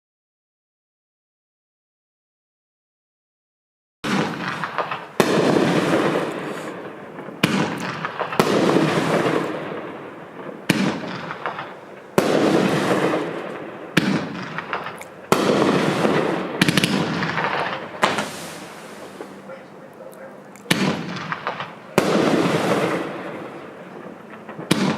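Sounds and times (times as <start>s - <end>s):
fireworks reports: 4.0s - 24.9s.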